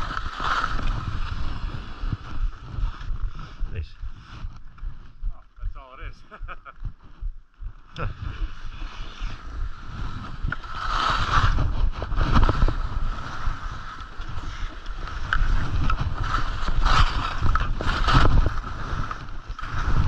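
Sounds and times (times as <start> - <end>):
skis scraping over snow: 0.0 - 5.0, 7.8 - 20.0.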